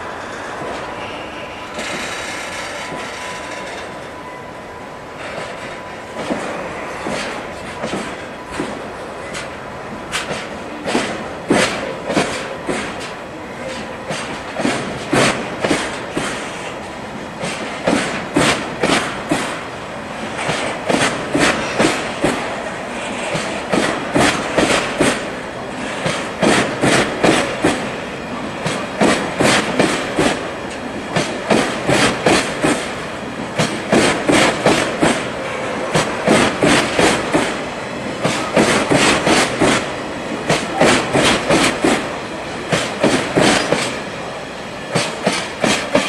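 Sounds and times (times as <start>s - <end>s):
train wheels clacking over rail joints: 1.7s - 4.1s, 5.2s - 16.8s, 17.4s - 19.6s, 20.2s - 46.0s.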